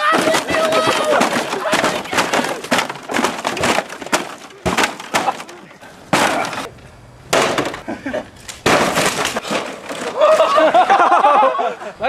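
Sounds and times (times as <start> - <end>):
blows smashing a fridge: 0.0 - 6.7, 7.3 - 11.0.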